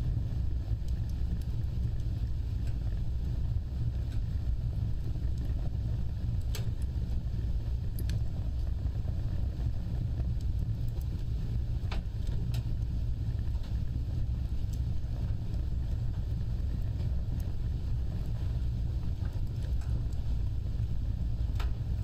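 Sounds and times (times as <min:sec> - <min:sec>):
fire crackles: 0:00.0 - 0:22.0
wood fire rumbling: 0:00.0 - 0:22.0.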